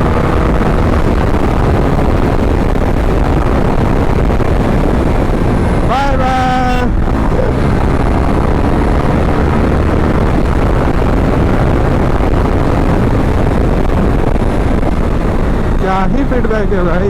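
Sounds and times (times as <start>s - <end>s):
motorcycle engine running: 0.0s - 17.0s
wind rush over microphone: 0.0s - 17.0s.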